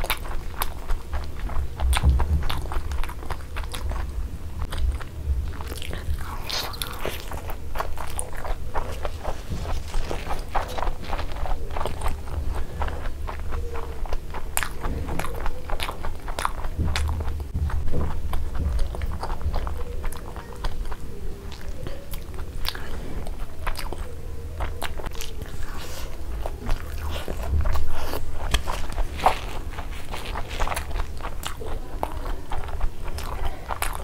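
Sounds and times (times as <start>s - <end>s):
biting and chewing: 0.0s - 34.0s
crunching: 0.0s - 34.0s.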